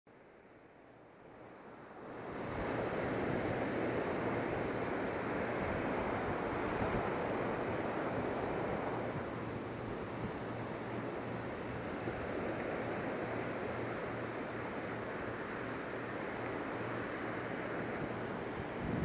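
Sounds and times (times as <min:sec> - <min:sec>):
ocean surf breaking: 0:01.6 - 0:19.0.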